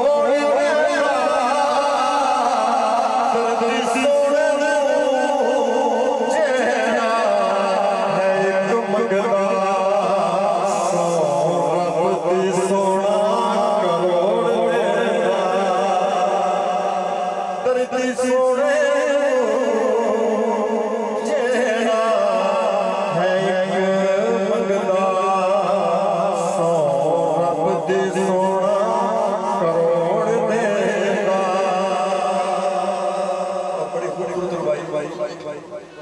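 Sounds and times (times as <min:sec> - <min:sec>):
man singing over a pa: 0:00.0 - 0:36.0.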